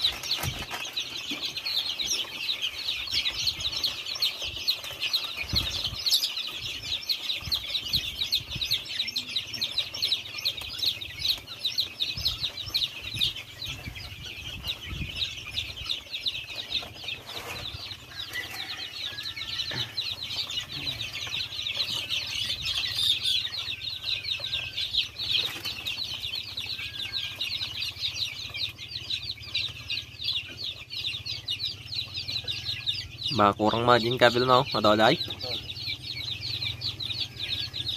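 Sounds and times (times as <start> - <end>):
chicks peeping: 0.0 - 37.9.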